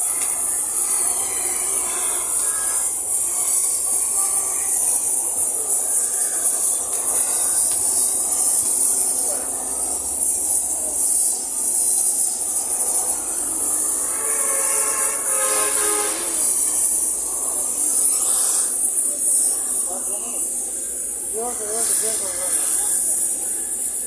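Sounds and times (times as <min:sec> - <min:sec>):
steady loud hiss: 0:00.0 - 0:24.0.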